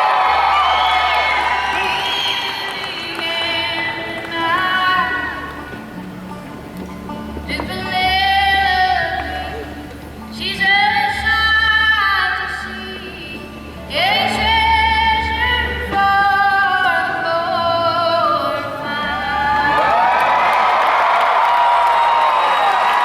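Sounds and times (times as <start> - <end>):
woman singing lead: 0.0 - 5.9, 7.1 - 20.2
band playing country-folk song: 0.1 - 19.9.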